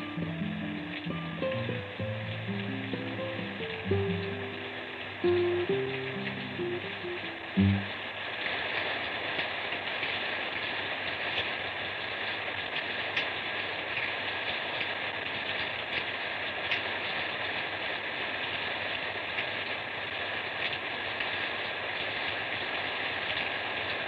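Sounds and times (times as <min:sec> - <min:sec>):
light rain on paving: 0:00.0 - 0:24.0.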